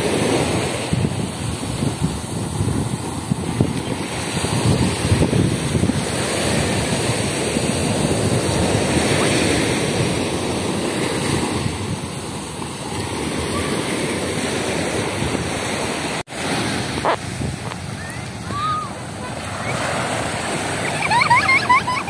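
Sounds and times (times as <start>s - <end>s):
wind buffeting microphone: 0.0s - 20.8s
sea surf washing onto beach: 0.0s - 22.0s.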